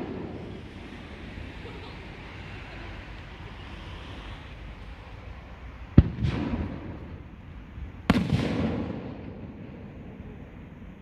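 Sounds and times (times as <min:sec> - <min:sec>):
firework shells bursting: 0:00.0 - 0:10.9.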